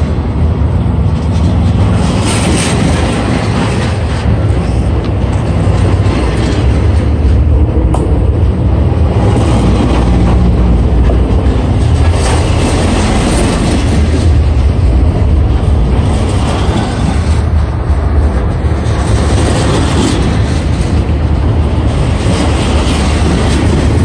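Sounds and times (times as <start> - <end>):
steel wheels rumbling on rails: 0.0 - 24.0.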